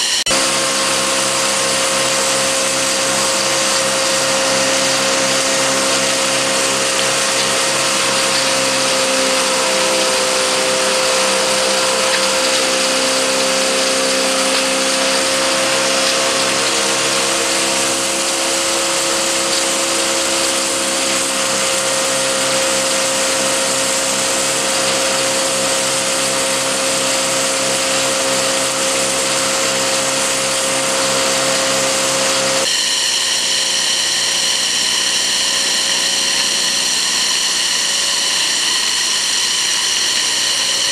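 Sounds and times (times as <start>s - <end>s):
mulch blower whining and rushing: 0.0s - 40.9s.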